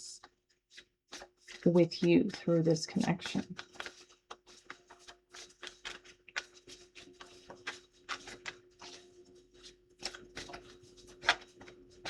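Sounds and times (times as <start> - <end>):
cards shuffling: 0.2 - 1.7, 2.3 - 12.0.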